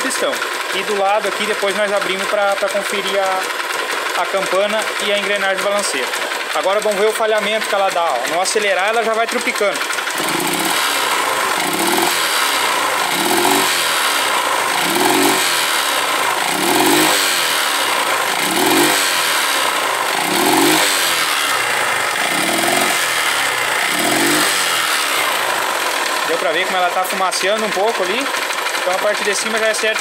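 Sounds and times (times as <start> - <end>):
engine top-end rattle: 0.0 - 30.0
motorcycle engine revving: 0.0 - 30.0.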